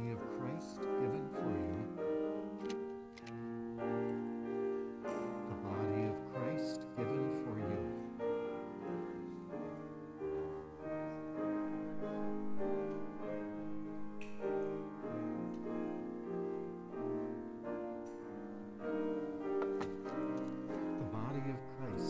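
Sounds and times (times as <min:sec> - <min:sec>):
grand piano melody: 0:00.0 - 0:22.0.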